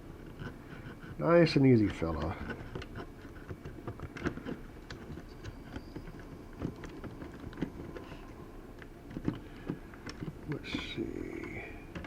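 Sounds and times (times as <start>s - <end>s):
light clicks and knocks: 0.2s - 12.0s.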